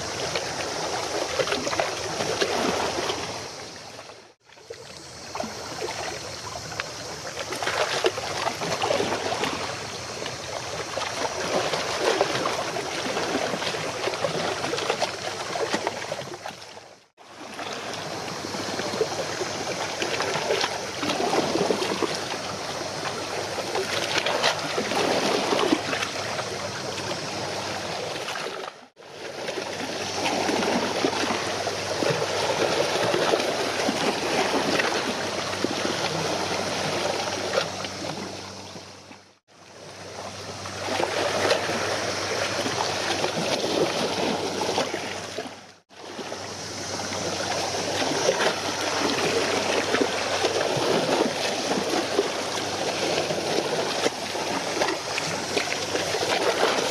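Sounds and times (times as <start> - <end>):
water lapping and splashing: 0.0 - 56.9.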